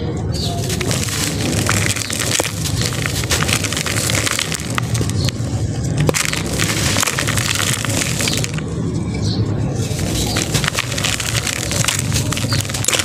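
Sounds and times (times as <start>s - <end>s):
sand crunching as crumbled by hand: 0.6s - 5.4s, 6.0s - 8.6s, 9.8s - 13.0s.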